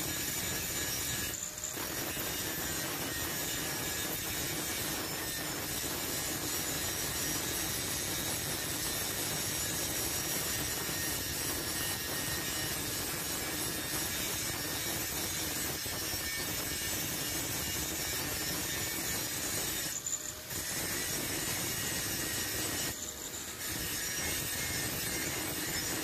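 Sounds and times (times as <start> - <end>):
angle grinder cutting steel: 0.0 - 26.0.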